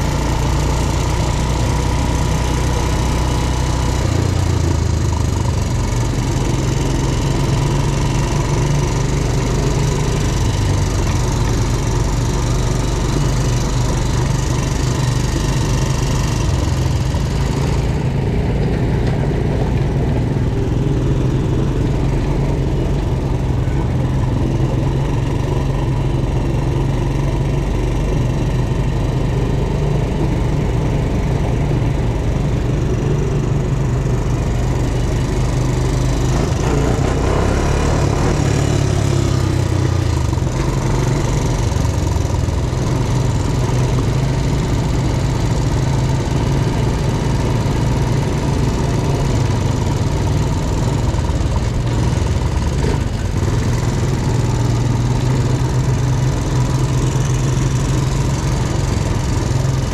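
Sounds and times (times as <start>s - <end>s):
quad bike engine droning: 0.0s - 59.9s.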